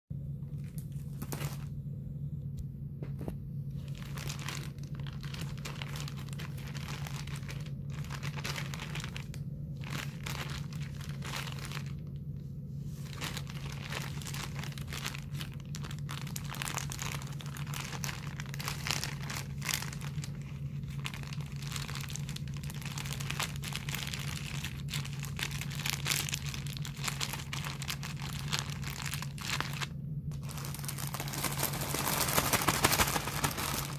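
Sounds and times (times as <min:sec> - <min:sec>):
steady low hum: 0:00.1 - 0:33.9
plastic bag crinkling: 0:00.4 - 0:01.7, 0:03.7 - 0:12.2, 0:13.0 - 0:33.9.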